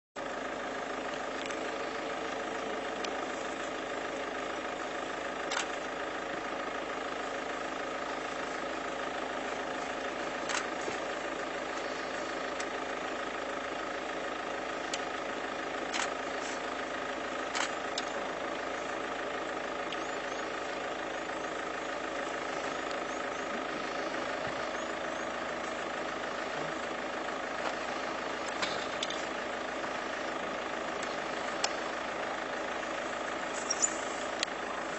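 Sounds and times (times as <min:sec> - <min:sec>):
vehicle engine idling: 0:00.2 - 0:34.9.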